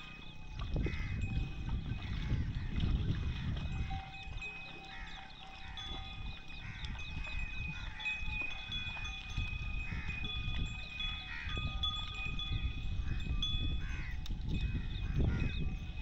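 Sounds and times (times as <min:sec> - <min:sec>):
livestock bells ringing: 0:00.0 - 0:16.0.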